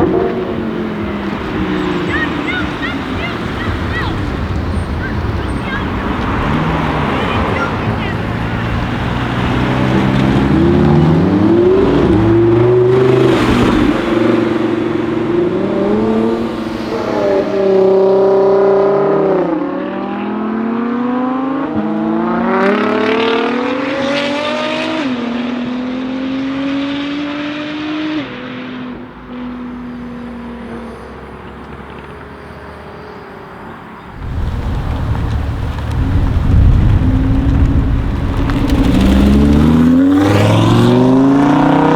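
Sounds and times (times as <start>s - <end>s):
sports car engine accelerating: 0.0s - 33.2s, 34.0s - 41.9s.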